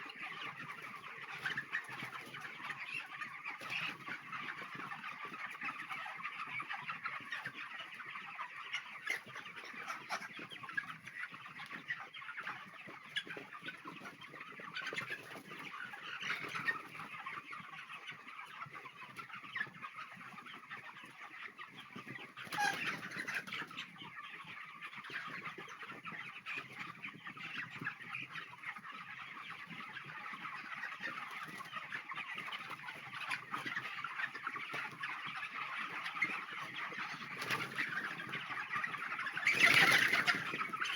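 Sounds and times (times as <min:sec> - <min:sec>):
flock of chickens clucking: 0:00.0 - 0:40.9.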